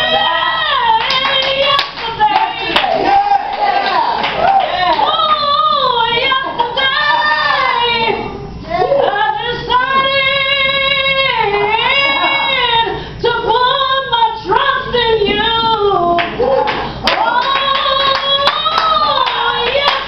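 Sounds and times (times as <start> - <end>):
woman singing gospel song: 0.0 - 3.9, 4.8 - 20.0.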